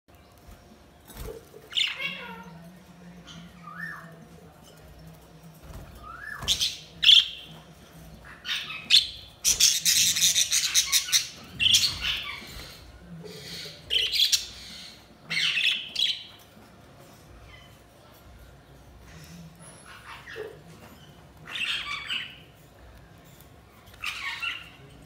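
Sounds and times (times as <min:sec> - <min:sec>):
budgerigars chirping and chattering: 0:00.3 - 0:25.0.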